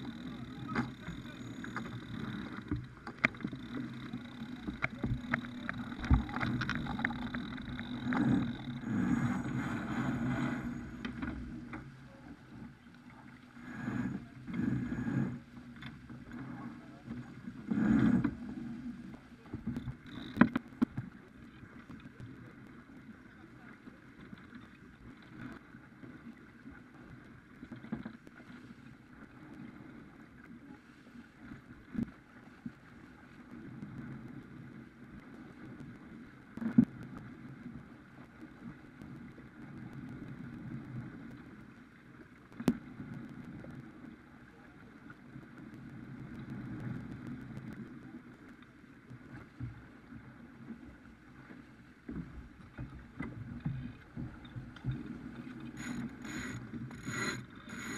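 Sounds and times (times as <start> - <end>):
water rushing along hull: 0.0 - 57.9.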